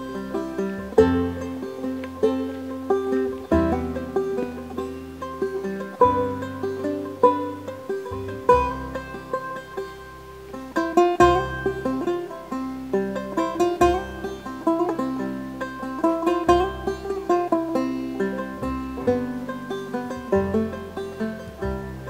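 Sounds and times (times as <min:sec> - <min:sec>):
bass line: 0:00.0 - 0:22.0
plucked strings music: 0:00.0 - 0:22.0.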